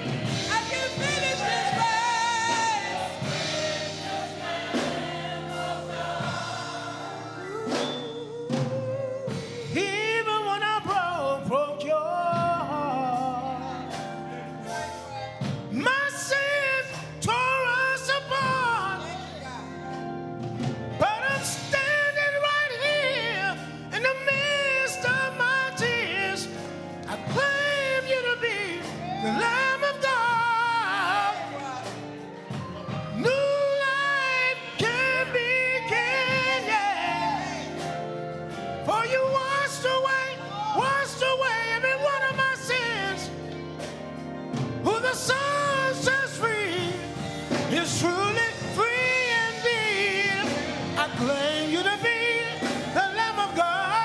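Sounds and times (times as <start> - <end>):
instrumental accompaniment: 0.0 - 54.0.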